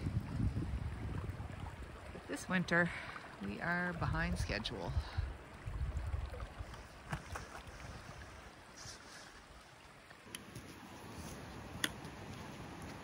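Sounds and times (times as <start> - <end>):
brook running over rocks: 0.0 - 13.0.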